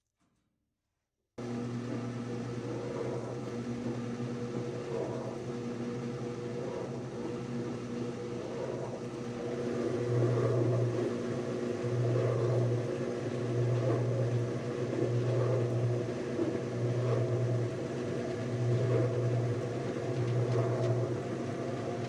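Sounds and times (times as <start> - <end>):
washing machine motor humming: 1.4 - 22.0.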